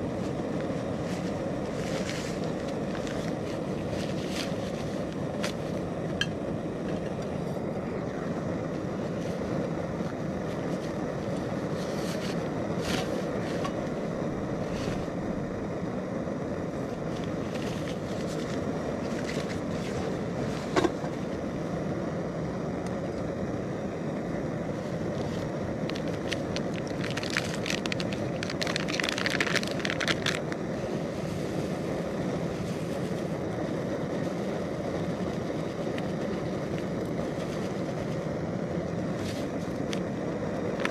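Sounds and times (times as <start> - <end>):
stove burner roaring: 0.0 - 40.9.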